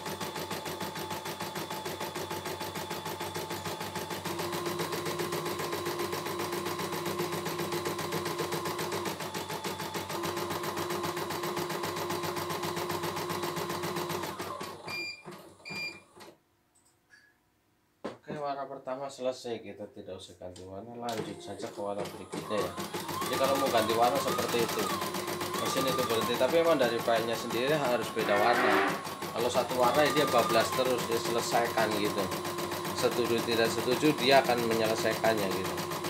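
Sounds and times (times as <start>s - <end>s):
embroidery machine stitching: 0.0s - 16.4s, 21.1s - 36.0s.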